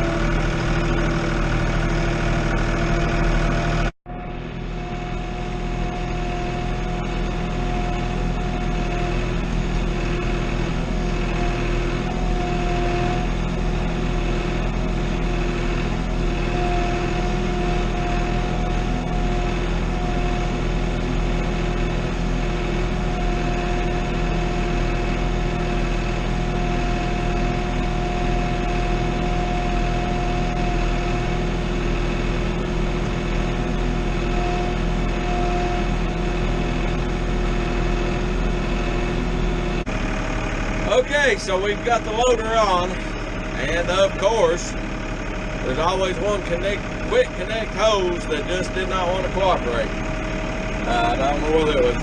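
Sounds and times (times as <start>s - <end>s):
tractor engine idling: 0.0s - 52.0s
steady whine: 3.6s - 52.0s.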